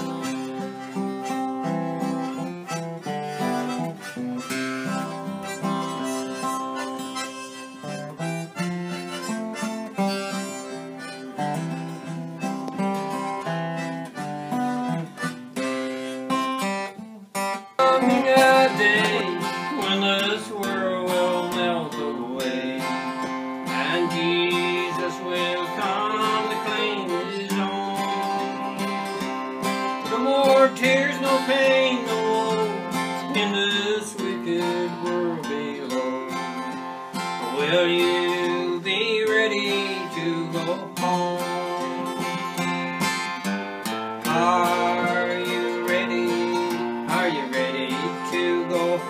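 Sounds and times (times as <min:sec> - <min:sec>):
acoustic guitar strummed and picked: 0:00.0 - 0:49.0
mandolin playing a folk tune: 0:00.0 - 0:49.0
sliding melody line: 0:00.0 - 0:49.0.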